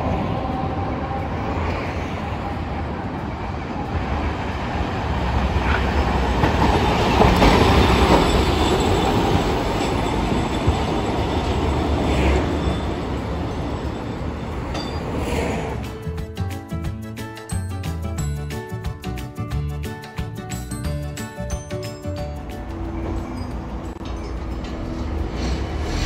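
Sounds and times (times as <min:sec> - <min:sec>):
streetcar wheels rumbling over rails: 0:00.0 - 0:17.0, 0:21.2 - 0:26.0.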